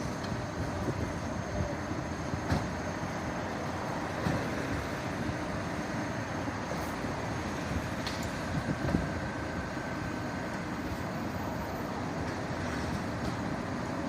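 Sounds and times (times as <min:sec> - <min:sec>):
idling vehicle engines: 0:00.0 - 0:14.0.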